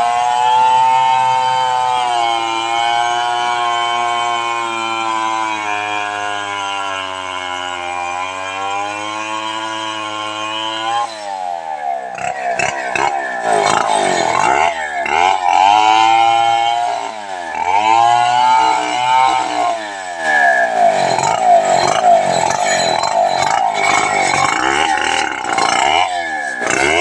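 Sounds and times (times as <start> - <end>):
chainsaw cutting log: 0.0 - 27.0.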